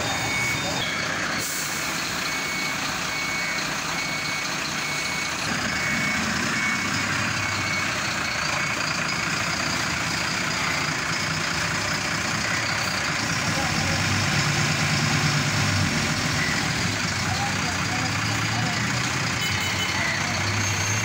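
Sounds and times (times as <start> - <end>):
reversing alarm beeping: 0.0 - 11.6, 12.3 - 21.0
diesel engine running: 0.0 - 21.0.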